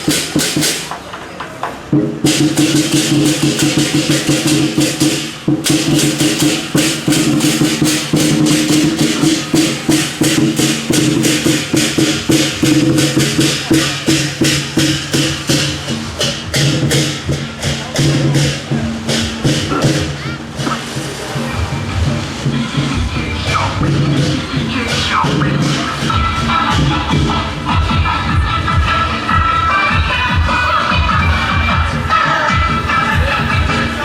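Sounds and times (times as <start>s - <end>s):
percussion strikes: 0.0s - 34.0s.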